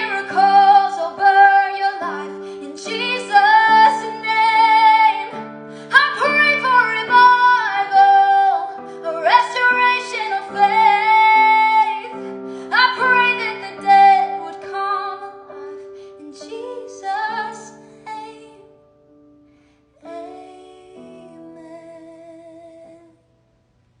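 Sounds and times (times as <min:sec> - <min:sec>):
woman singing: 0:00.0 - 0:18.8, 0:20.0 - 0:23.2.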